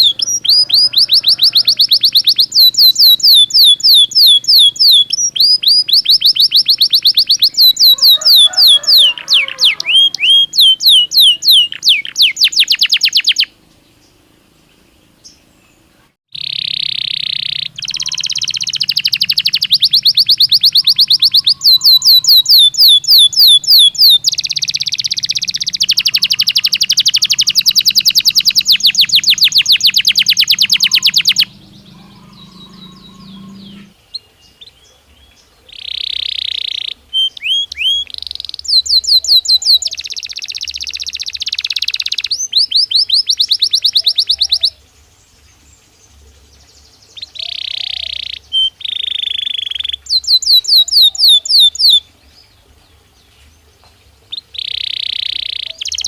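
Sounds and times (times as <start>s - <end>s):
canary singing trills: 0.0s - 14.2s, 15.2s - 53.2s, 54.2s - 56.0s.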